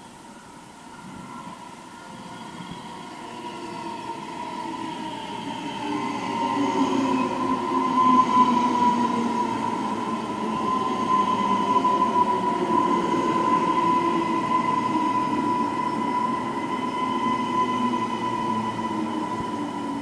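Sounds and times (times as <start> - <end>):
high-pitched train whine: 0.0 - 20.0
train rumbling past: 0.7 - 20.0.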